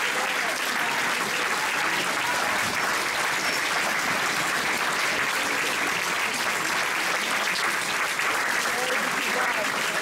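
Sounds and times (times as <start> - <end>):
large audience applauding: 0.0 - 10.0.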